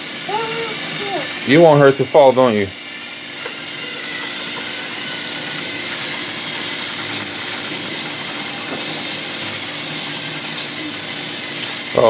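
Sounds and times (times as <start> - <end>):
toy train motors whirring: 0.0 - 12.0.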